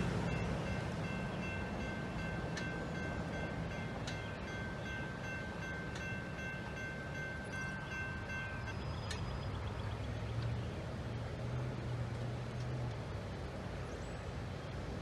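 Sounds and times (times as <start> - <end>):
freight train rumble: 0.0 - 15.0.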